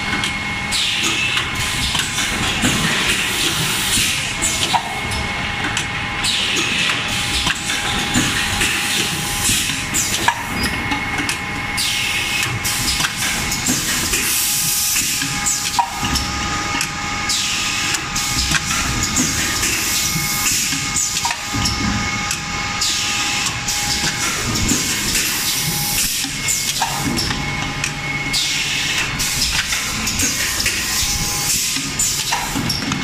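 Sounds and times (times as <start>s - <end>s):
mechanical clatter and knocks: 0.0s - 33.0s.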